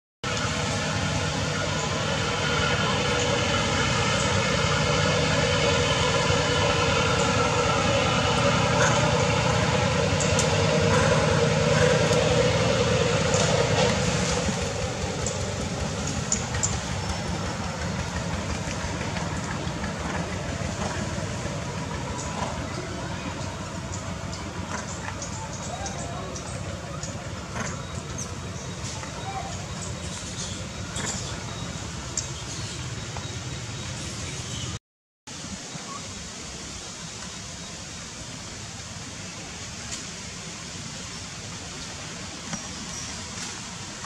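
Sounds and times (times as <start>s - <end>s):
engine-like drone: 0.2s - 44.0s.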